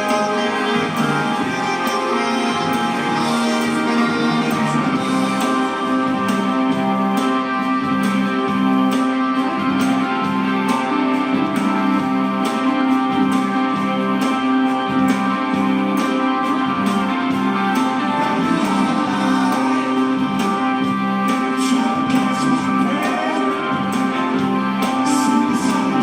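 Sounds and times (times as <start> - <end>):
bass line: 0.0 - 26.0
guitars: 0.0 - 26.0
keyboard: 0.0 - 26.0.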